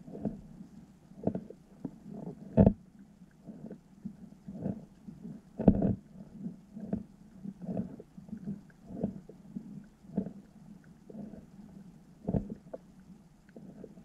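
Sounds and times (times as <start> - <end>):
faint ticks: 0.1 - 14.0.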